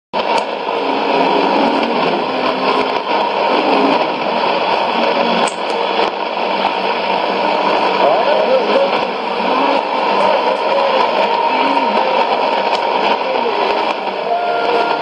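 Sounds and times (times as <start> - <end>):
radio static hiss: 0.2 - 15.0
sharp static crackle: 0.2 - 15.0
weak radio broadcast: 0.2 - 15.0.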